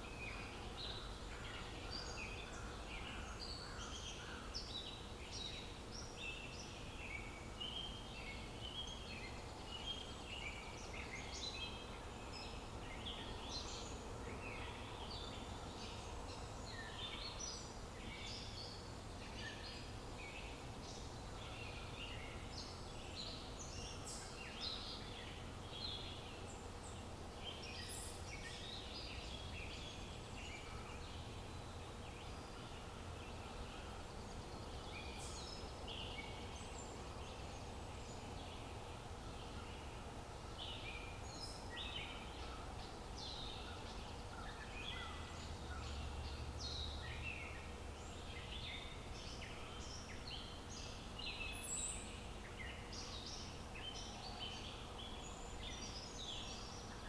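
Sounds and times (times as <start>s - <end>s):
small birds chirping and twittering: 0.0s - 57.0s.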